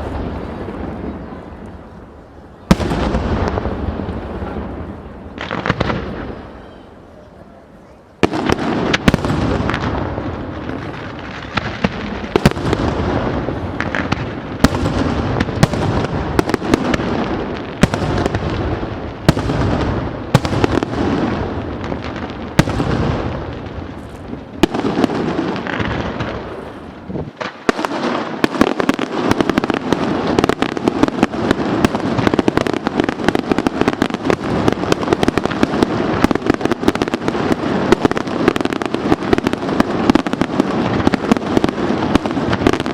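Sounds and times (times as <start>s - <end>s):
crackling fireworks volley: 0.0s - 42.9s
fireworks bangs with echo: 0.0s - 42.9s.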